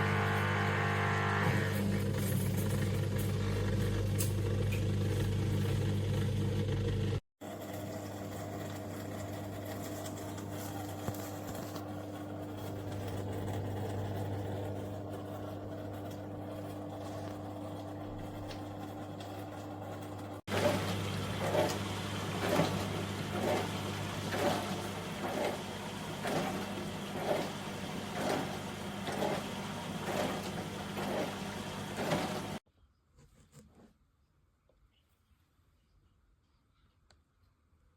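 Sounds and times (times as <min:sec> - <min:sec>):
dishwasher motor hum: 0:00.0 - 0:32.6.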